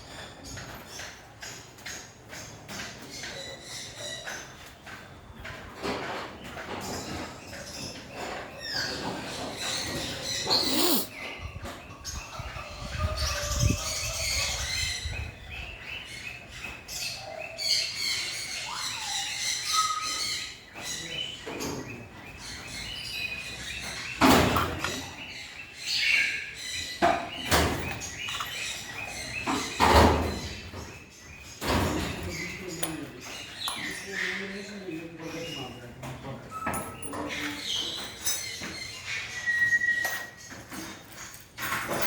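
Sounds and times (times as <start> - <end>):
birds chirping and calling: 0.0 - 42.0.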